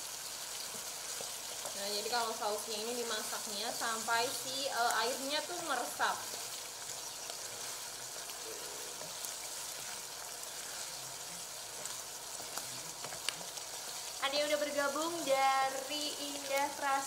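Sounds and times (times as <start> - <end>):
sauce sizzling in a pan: 0.0 - 17.0.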